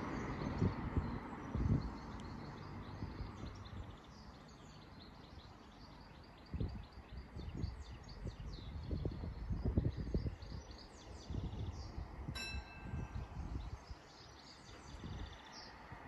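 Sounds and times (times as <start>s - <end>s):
road traffic noise: 0.0s - 8.2s, 8.8s - 16.0s
small birds chirping: 0.0s - 16.0s.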